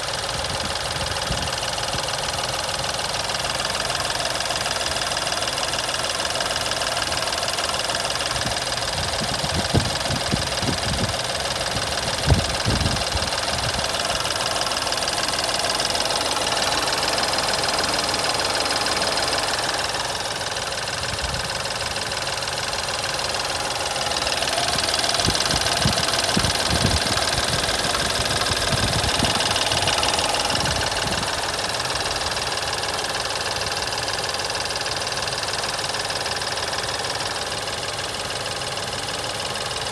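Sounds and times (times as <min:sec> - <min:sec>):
engine running with clattering rattle: 0:00.0 - 0:39.9
engine knocks: 0:00.1 - 0:39.9.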